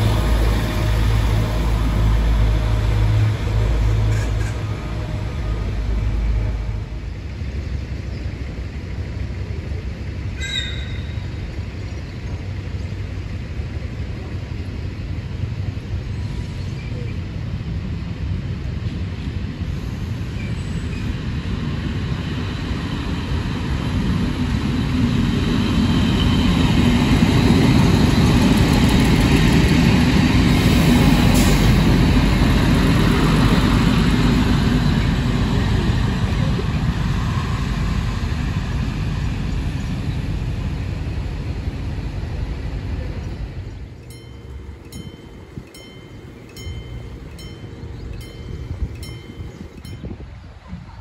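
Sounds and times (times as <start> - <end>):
diesel railcar passing: 0.0 - 51.0.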